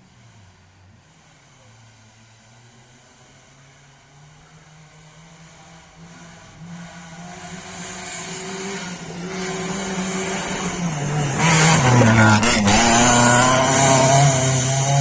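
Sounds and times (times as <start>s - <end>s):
rally car engine approaching: 0.0s - 15.0s.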